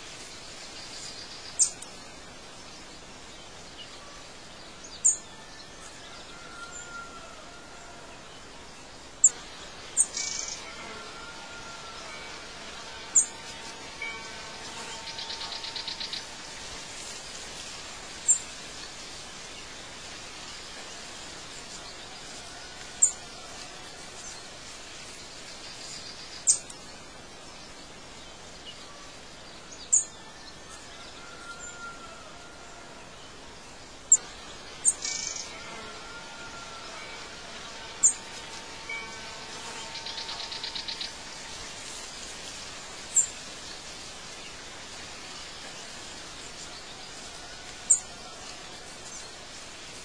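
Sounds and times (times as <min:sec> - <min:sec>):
steady background hiss: 0:00.0 - 0:50.0.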